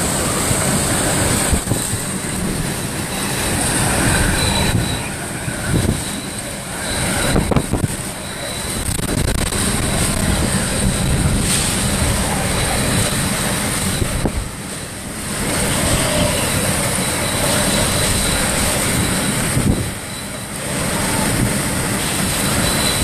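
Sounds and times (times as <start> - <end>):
hurricane wind buffeting microphone: 0.0 - 23.0.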